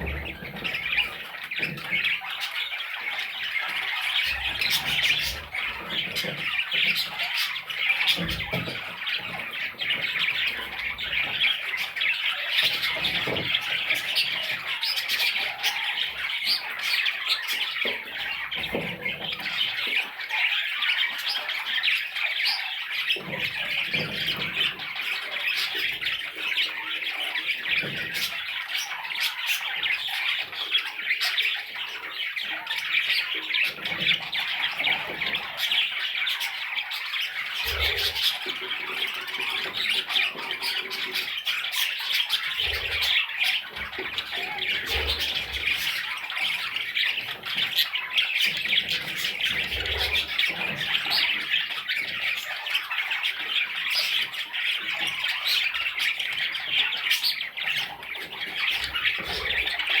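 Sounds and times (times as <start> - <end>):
budgerigar chicks squawking: 0.0 - 60.0.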